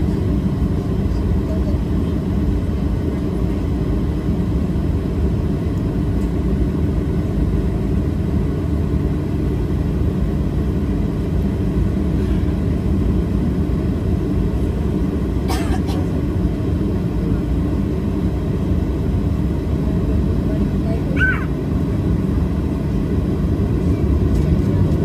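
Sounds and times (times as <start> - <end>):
jet airliner rumble: 0.0 - 25.0.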